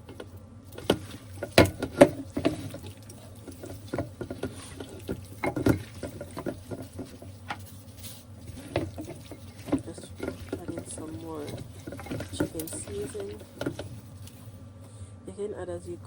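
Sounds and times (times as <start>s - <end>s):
hands squishing raw chicken: 0.0s - 14.6s.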